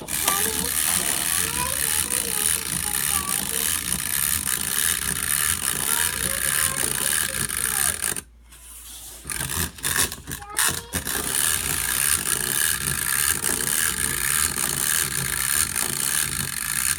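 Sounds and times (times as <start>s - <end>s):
wind-up toy gears whirring: 0.0s - 16.9s.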